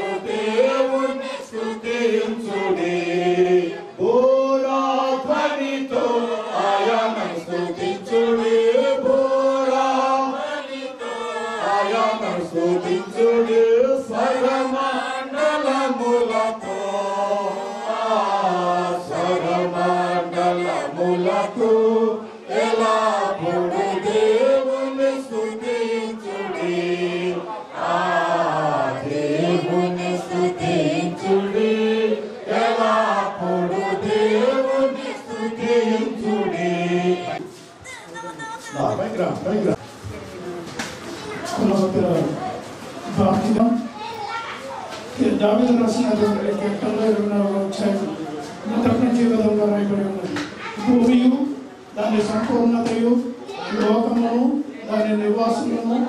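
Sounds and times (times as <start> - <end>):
group singing a hymn: 0.0 - 37.8, 45.1 - 56.0.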